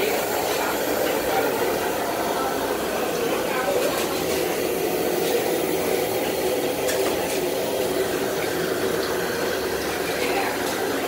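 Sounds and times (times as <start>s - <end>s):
gas stove burner roaring: 0.0s - 11.0s.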